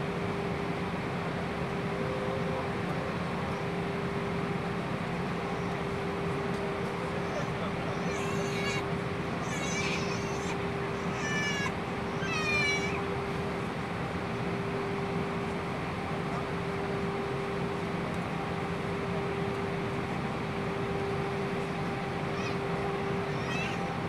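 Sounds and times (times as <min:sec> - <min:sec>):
airplane cabin hiss and hum: 0:00.0 - 0:24.0.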